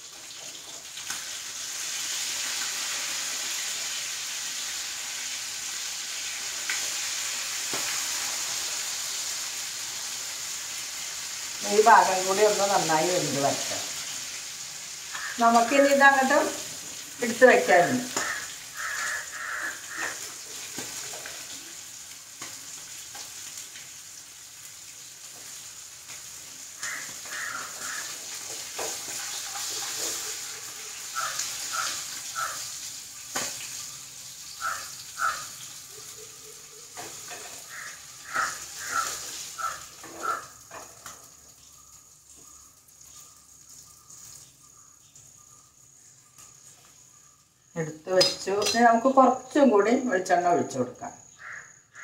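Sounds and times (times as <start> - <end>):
fish sizzling in a pan: 0.0 - 50.2.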